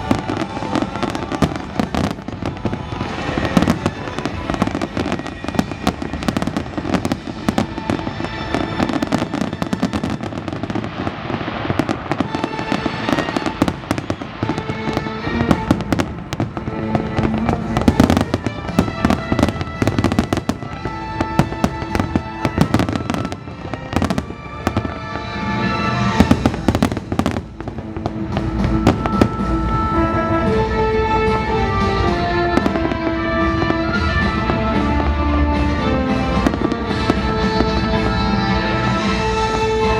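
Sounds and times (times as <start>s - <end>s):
fireworks bangs and crackles: 0.0s - 39.9s
music playing: 0.0s - 39.9s.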